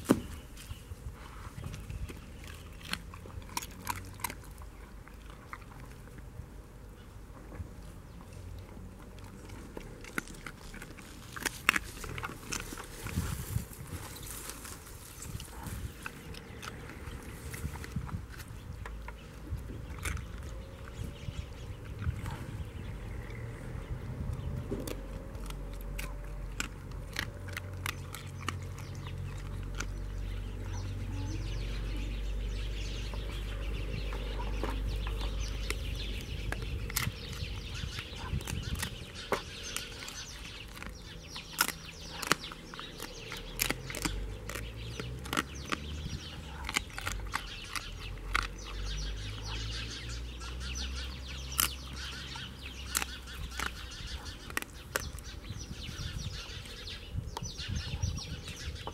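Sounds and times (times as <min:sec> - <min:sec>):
dog chewing bones: 0:01.2 - 0:06.3, 0:08.5 - 0:31.0, 0:32.5 - 0:58.9.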